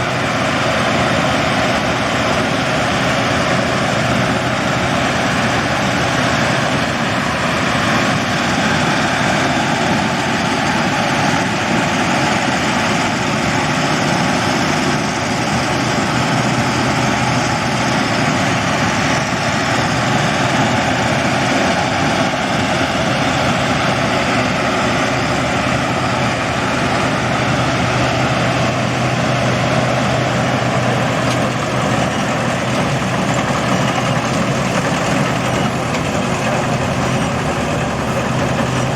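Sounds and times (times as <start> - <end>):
combine harvester engine drone: 0.0 - 38.9
machinery noise: 0.0 - 38.9.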